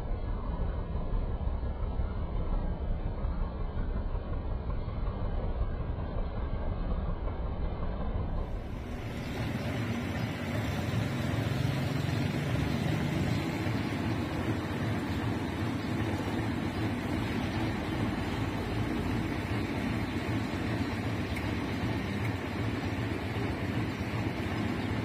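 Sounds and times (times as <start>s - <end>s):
heavy diesel engine running: 3.4s - 25.0s.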